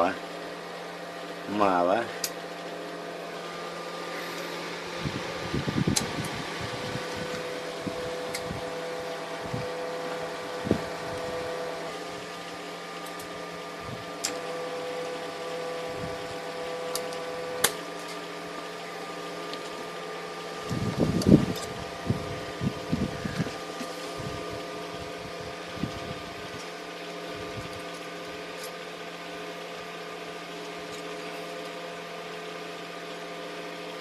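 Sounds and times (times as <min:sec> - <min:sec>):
higher hum tone: 0:00.0 - 0:28.7
transformer humming: 0:01.1 - 0:28.7.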